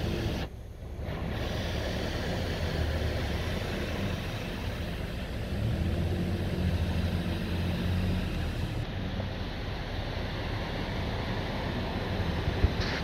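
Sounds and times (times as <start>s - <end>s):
truck engine hum: 0.0s - 13.0s.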